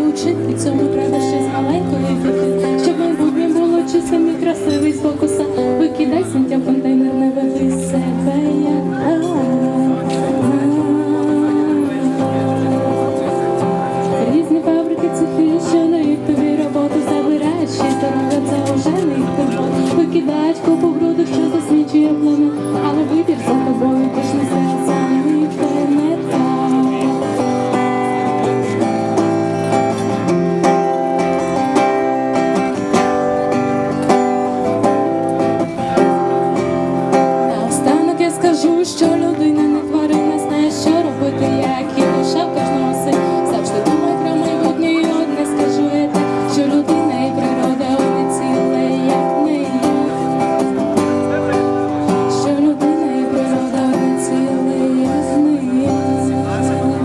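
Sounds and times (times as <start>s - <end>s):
woman singing into microphone: 0.0s - 29.3s, 36.4s - 51.1s, 51.9s - 57.0s
acoustic guitar strumming: 0.0s - 57.0s.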